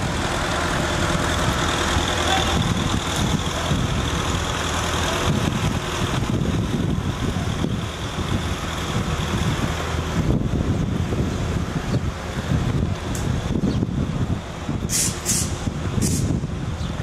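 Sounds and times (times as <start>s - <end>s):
road traffic rumble: 0.0s - 17.0s
wind buffeting microphone: 0.0s - 17.0s.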